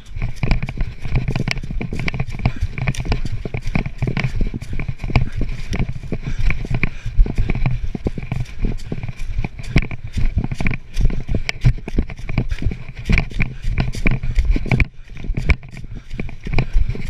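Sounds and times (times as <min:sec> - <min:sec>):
running footfalls: 0:00.0 - 0:17.0.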